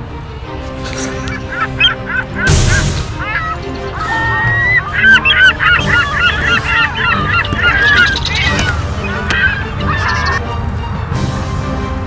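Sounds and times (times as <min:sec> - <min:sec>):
gulls squawking: 0:00.7 - 0:10.5.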